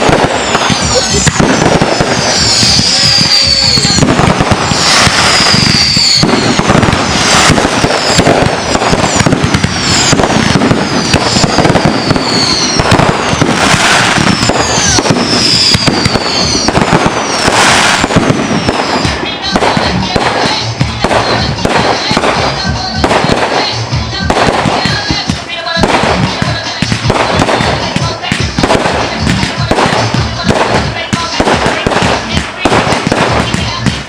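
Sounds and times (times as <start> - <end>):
fireworks bursting and crackling: 0.0 - 34.0
fireworks whistling: 0.0 - 34.0.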